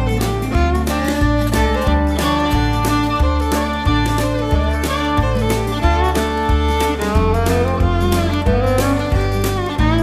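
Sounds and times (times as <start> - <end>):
bluegrass fiddle tune: 0.0 - 10.0
plucked bass line: 0.0 - 10.0.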